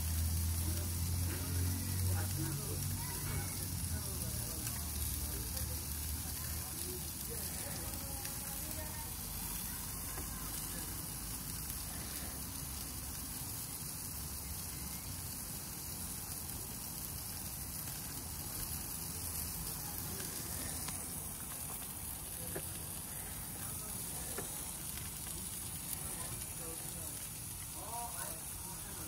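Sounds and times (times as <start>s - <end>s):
steak sizzling: 0.0s - 29.0s.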